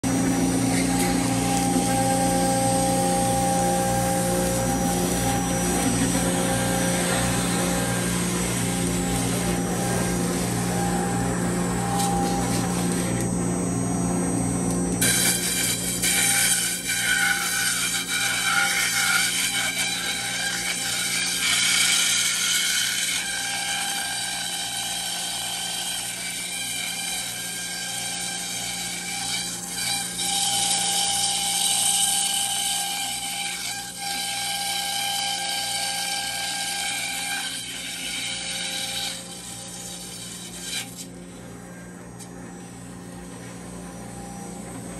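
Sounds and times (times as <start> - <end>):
router spindle whining: 0.0 - 44.9.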